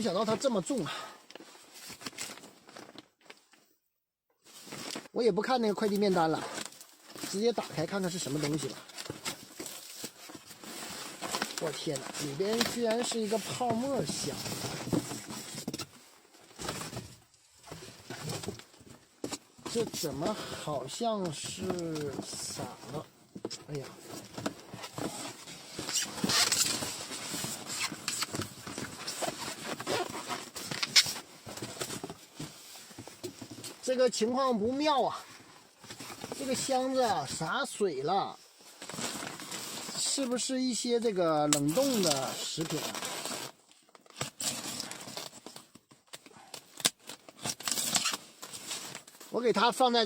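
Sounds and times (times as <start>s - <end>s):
cardboard parcel being handled: 4.4s - 50.0s.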